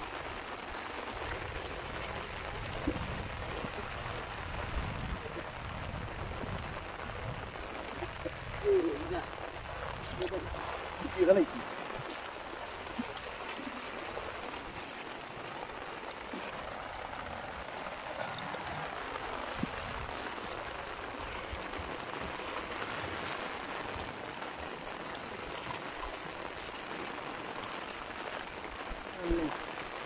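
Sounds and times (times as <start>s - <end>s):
rain on standing water: 0.0s - 30.0s.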